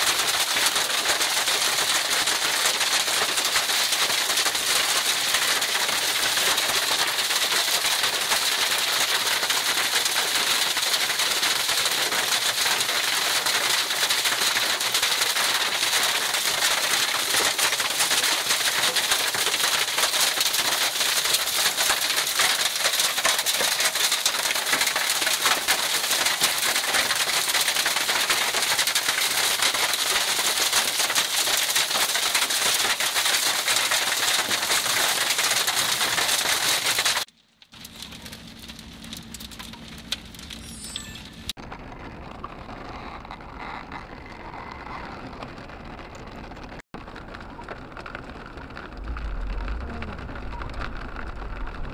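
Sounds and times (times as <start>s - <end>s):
hail striking ground: 0.0s - 51.9s.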